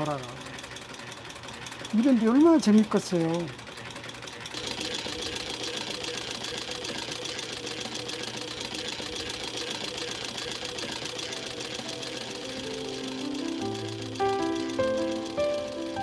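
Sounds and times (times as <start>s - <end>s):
sewing machine rattling: 0.0s - 16.0s.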